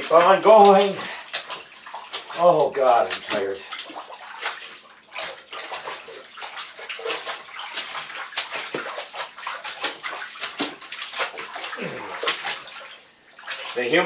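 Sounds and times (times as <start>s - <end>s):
water splashing in a bathtub: 0.0s - 14.0s.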